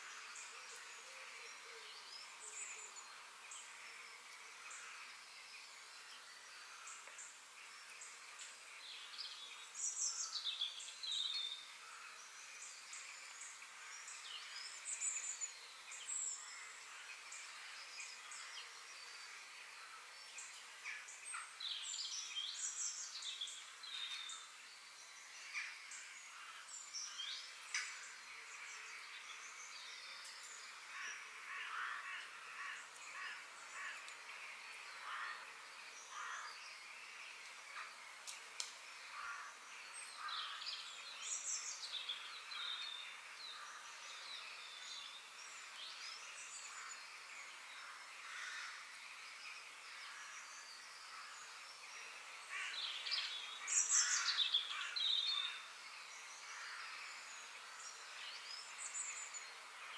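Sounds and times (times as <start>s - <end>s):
faint steady hiss: 0.0s - 59.9s
forest birds chirping: 0.0s - 59.9s.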